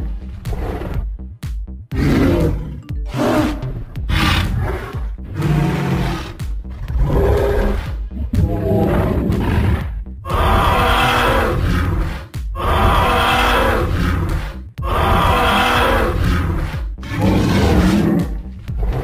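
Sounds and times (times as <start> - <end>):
music: 0.0 - 19.0
monster roars: 2.0 - 19.0.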